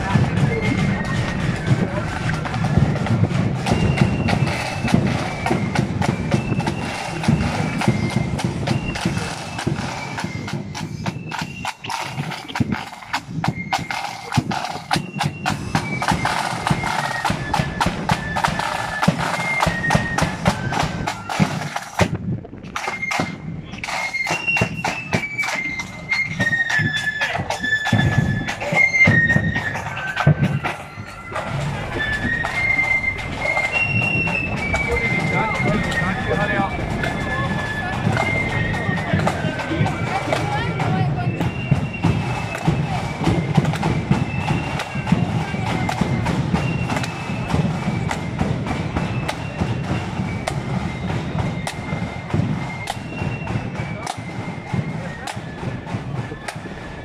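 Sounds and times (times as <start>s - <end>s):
flutes playing high melody: 0.0s - 57.0s
snare drums: 0.0s - 57.0s.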